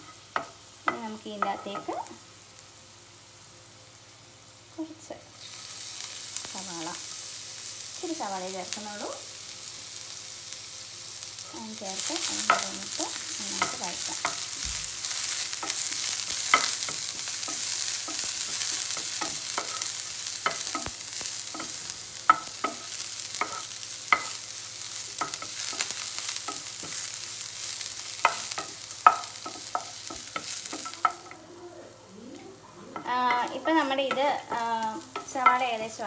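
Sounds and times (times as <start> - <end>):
garlic and onion sizzling in oil: 0.0 - 36.0.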